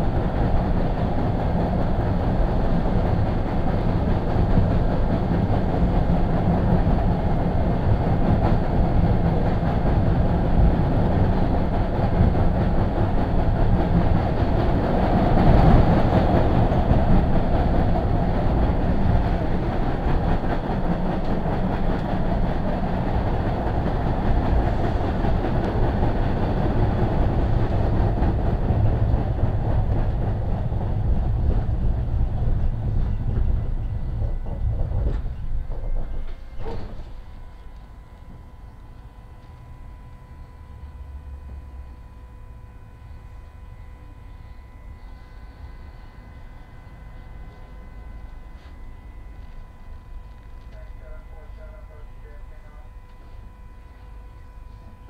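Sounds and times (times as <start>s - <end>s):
subway train rumbling: 0.0s - 55.0s.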